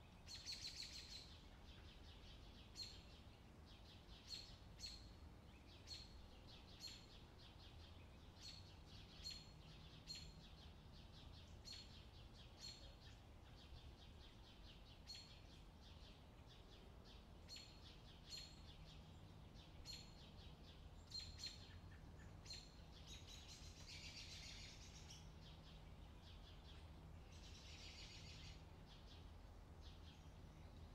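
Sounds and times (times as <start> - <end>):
faint bird chirping: 0.0 - 30.9
faint low hum: 0.0 - 30.9.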